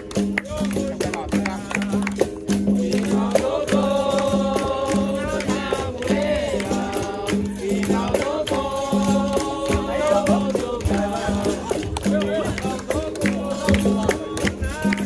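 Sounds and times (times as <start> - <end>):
rattling percussion: 0.0 - 15.0
voices singing together: 0.0 - 15.0.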